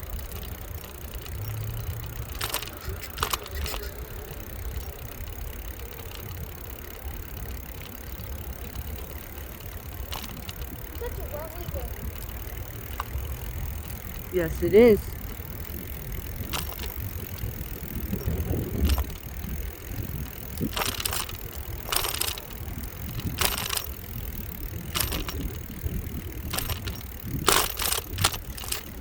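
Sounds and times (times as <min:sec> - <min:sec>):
bicycle rattling over bumps: 0:00.0 - 0:29.0
wind and rolling tyres rumble: 0:00.0 - 0:29.0.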